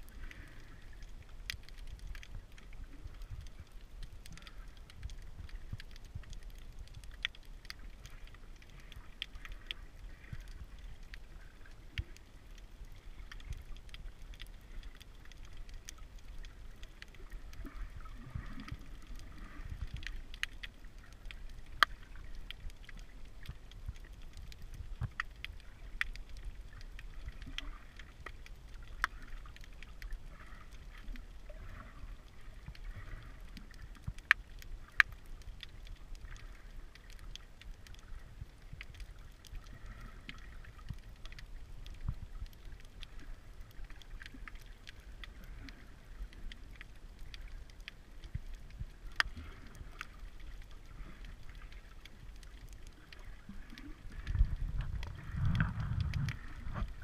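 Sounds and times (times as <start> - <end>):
underwater clicks and crackles: 0.0 - 57.0
underwater rumble of moving water: 0.0 - 57.0.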